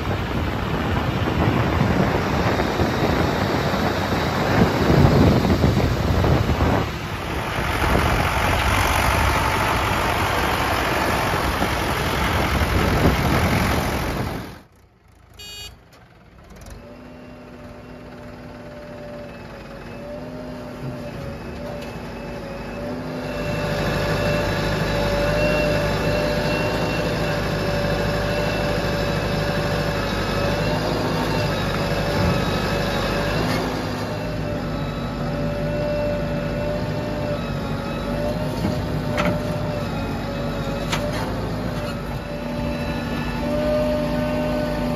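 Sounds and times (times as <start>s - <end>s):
backhoe digging and loading mud: 0.0s - 44.9s
diesel engine driving: 0.0s - 44.9s
diesel engines with high whine: 0.0s - 44.9s.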